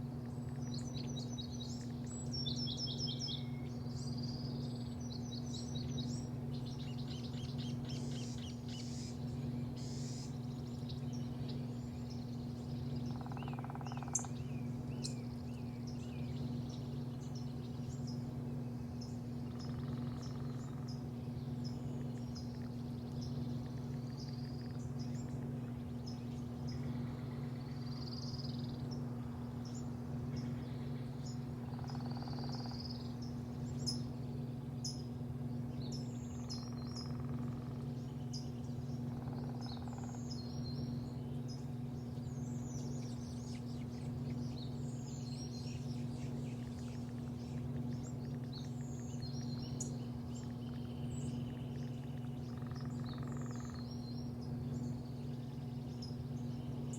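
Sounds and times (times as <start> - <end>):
low mechanical hum: 0.0 - 56.9
birds chirping and calling: 0.4 - 34.2, 34.8 - 56.9.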